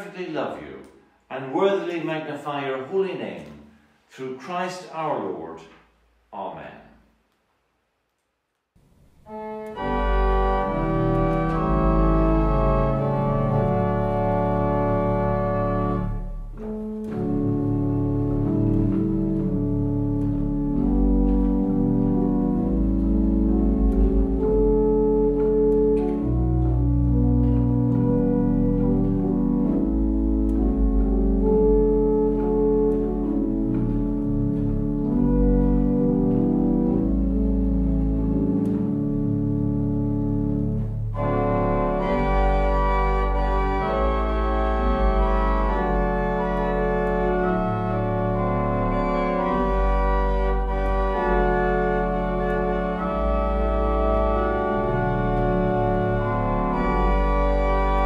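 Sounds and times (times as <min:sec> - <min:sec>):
pipe organ chords: 0:08.8 - 0:58.0.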